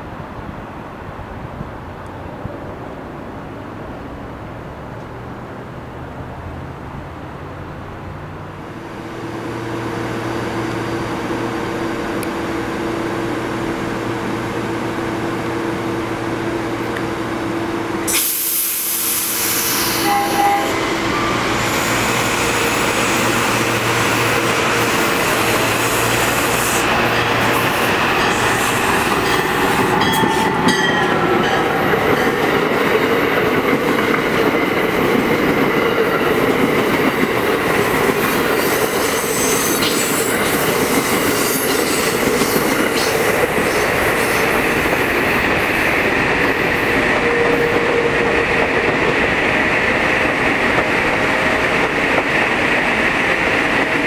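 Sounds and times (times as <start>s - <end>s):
passenger train passing at speed: 0.0s - 54.0s
electric train humming: 8.6s - 54.0s.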